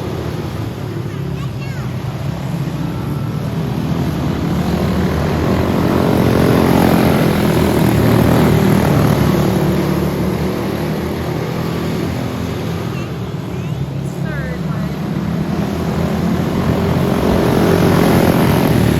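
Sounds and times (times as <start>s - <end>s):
kart engines passing by: 0.0s - 18.9s.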